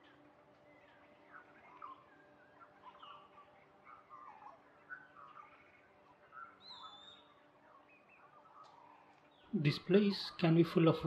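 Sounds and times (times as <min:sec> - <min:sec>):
birds chirping and whistling: 0:00.0 - 0:11.0
faint steady hum: 0:00.0 - 0:11.0.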